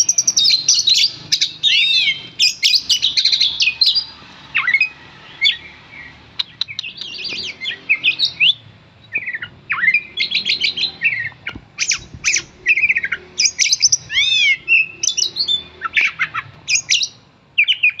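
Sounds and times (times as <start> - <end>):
bird singing: 0.0 - 18.0.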